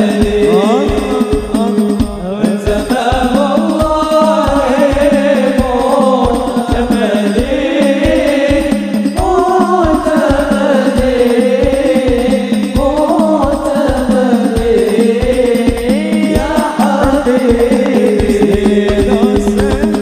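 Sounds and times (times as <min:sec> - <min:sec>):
frame drums beating: 0:00.0 - 0:20.0
man singing devotional melody: 0:00.0 - 0:20.0.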